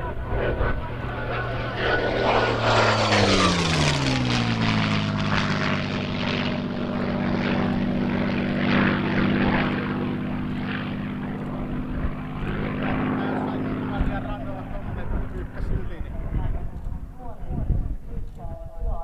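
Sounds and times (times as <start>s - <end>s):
propeller plane engine climbing: 0.0s - 19.0s.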